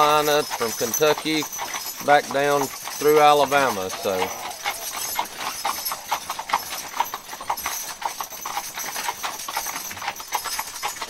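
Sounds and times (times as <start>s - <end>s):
mule hooves clip-clopping: 0.0s - 11.0s.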